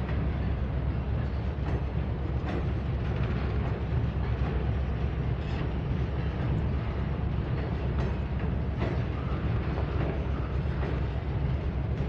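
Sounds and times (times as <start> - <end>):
train wheels rumbling on bridge: 0.0 - 12.0.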